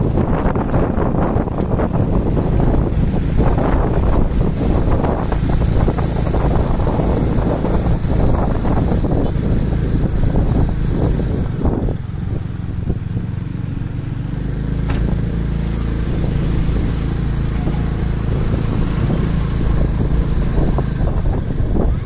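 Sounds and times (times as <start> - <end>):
road and wind noise: 0.0 - 22.0
vehicle engine rumbling: 0.0 - 22.0.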